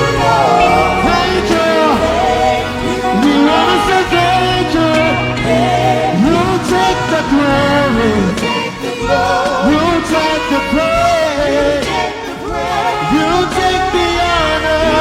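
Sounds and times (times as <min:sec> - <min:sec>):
instrumental backing with bass: 0:00.0 - 0:15.0
people singing gospel: 0:00.0 - 0:15.0.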